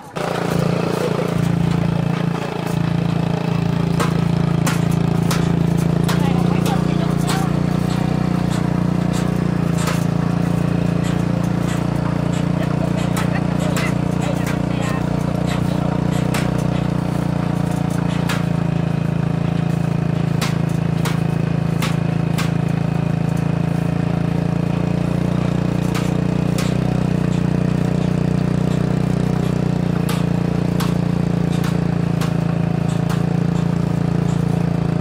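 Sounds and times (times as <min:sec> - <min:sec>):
engine running: 0:00.0 - 0:35.0
sharp clicks and rattles: 0:00.0 - 0:35.0.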